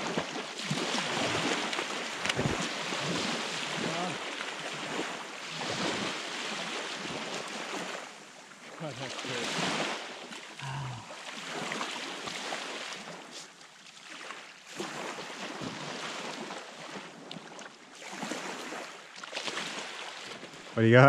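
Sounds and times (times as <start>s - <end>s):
small waves on sandy shore: 0.0s - 20.8s.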